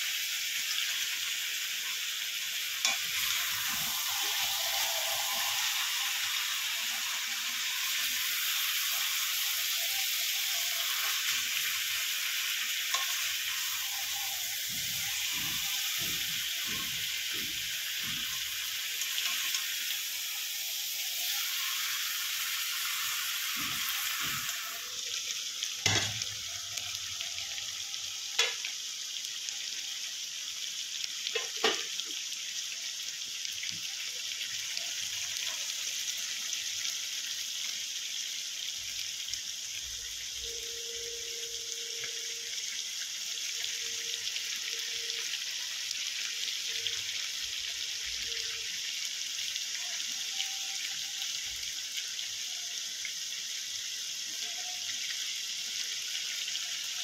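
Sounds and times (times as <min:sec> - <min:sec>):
meat sizzling in a pan: 0:00.0 - 0:57.0.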